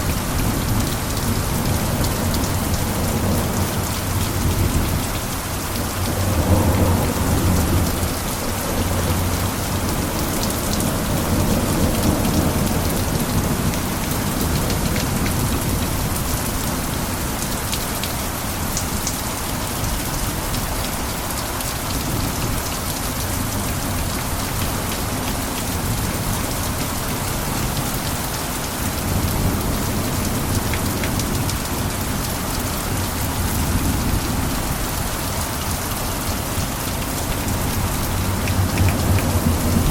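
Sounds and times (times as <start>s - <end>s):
rain on roof: 0.0s - 39.9s.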